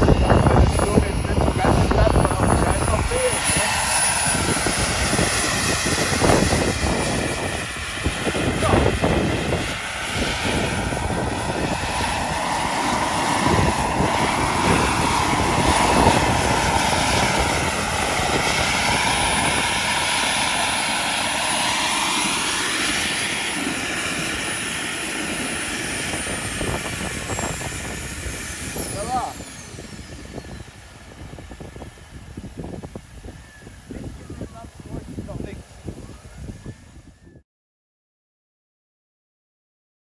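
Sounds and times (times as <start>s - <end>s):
helicopter rotor rushing: 0.0s - 37.4s
turbine whine: 0.0s - 37.4s.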